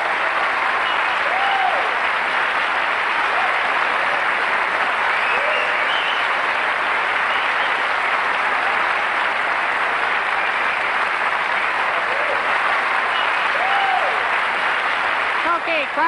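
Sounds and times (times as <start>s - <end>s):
large audience applauding: 0.0s - 16.0s.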